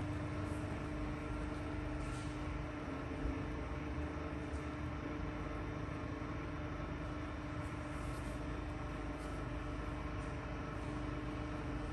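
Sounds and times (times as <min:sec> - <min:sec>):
bending rolls machine humming: 0:00.0 - 0:11.9.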